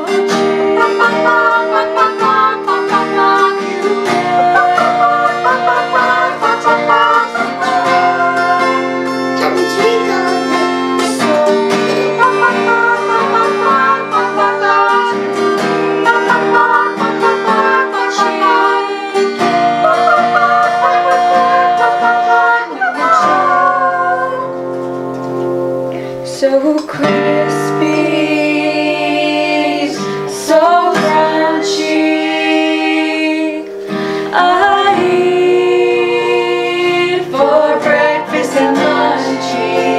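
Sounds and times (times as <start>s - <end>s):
girls singing in harmony: 0.0s - 24.8s, 26.2s - 39.9s
acoustic guitar: 0.0s - 39.9s.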